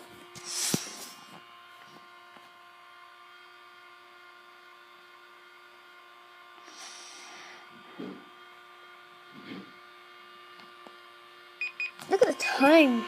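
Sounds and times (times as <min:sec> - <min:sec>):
toy microwave humming: 0:00.0 - 0:13.0.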